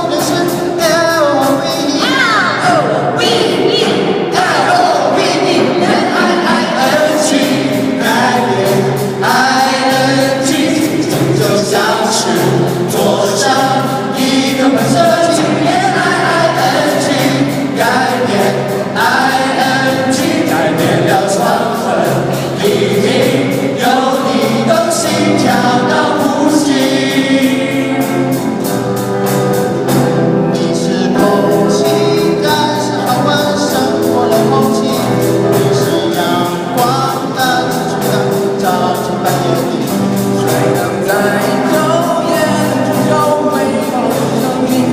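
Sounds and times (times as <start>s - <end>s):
group of voices singing: 0.0s - 44.9s
steady beat: 0.0s - 44.9s.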